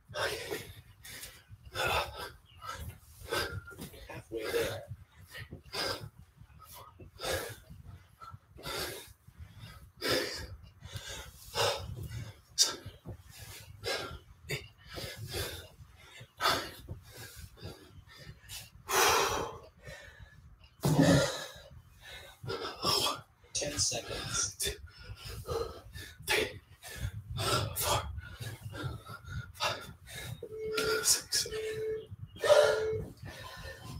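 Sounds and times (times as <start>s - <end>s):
man breathing hard: 0.0s - 33.9s.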